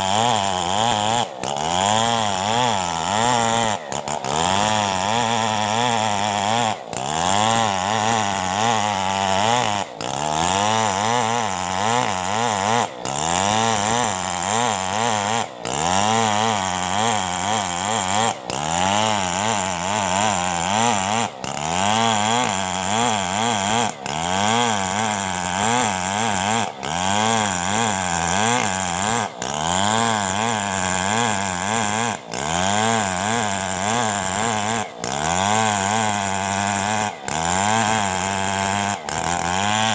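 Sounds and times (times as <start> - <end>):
engine-driven saw running: 0.0 - 39.9.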